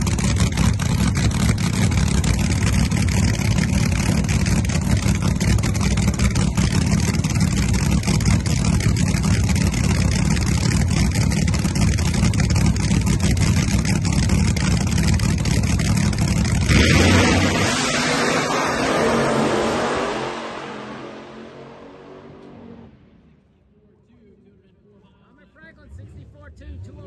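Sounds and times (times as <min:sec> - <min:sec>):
drag car engine rumbling: 0:00.0 - 0:23.6.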